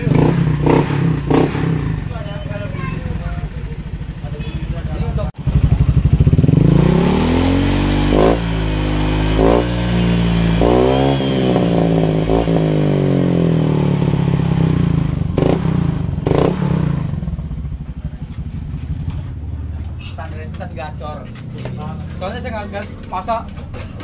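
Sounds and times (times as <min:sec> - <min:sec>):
scooter engine revving: 0:00.0 - 0:24.0.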